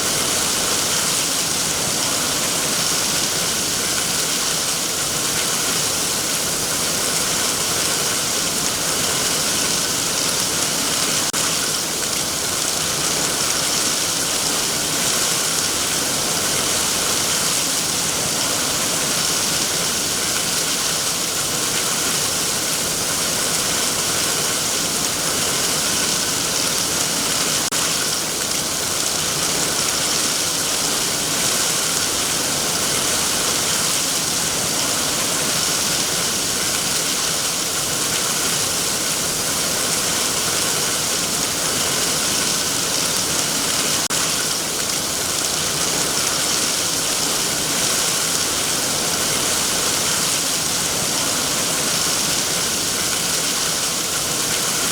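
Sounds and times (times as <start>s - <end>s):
heavy rain on leaves: 0.0s - 54.9s.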